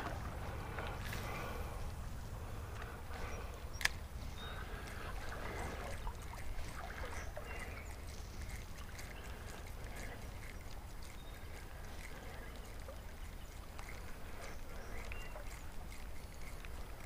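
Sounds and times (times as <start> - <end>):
creek water running: 0.0 - 17.0
light ticks: 2.7 - 17.0.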